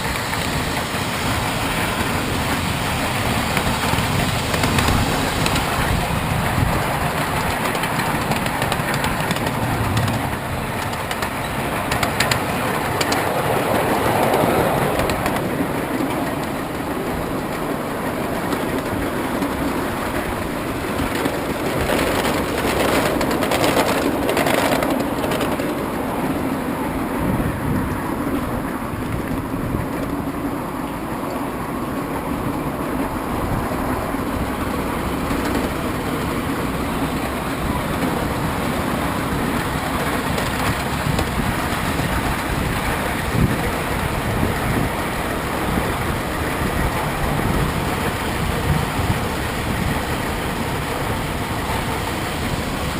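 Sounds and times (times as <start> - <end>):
sharp clicks from wheels: 0.0 - 52.9
train cars rumbling: 0.0 - 52.9.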